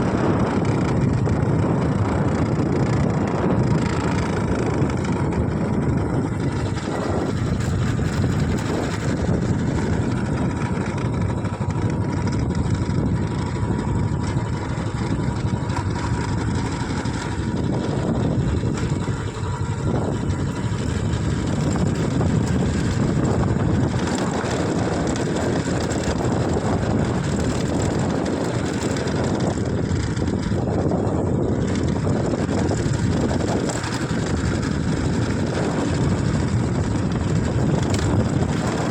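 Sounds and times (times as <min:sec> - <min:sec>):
vehicle rumble while moving: 0:00.0 - 0:38.9
wind on microphone: 0:00.0 - 0:38.9.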